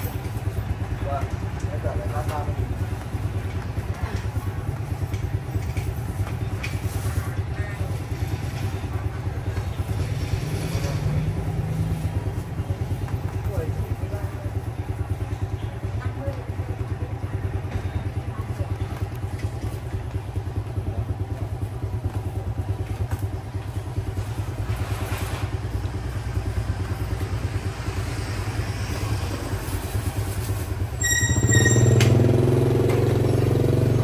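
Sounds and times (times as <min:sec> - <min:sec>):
motorbike engine idling: 0:00.0 - 0:34.0.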